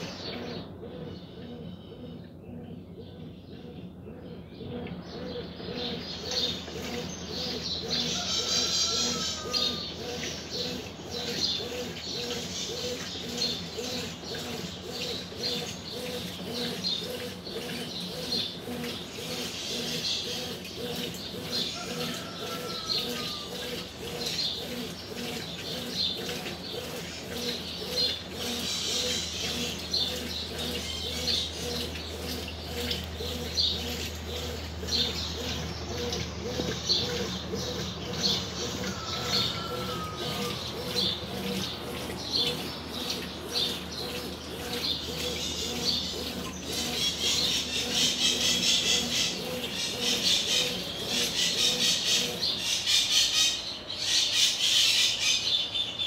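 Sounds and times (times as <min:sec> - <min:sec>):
washing machine swishing water: 0:06.5 - 0:53.5.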